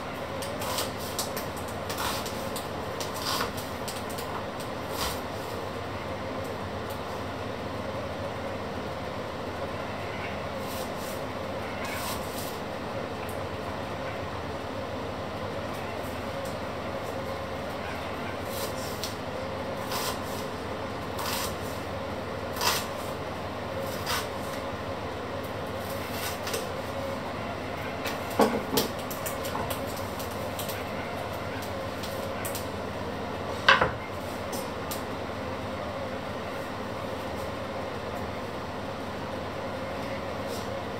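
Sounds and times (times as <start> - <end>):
steady background hum: 0.0 - 40.9.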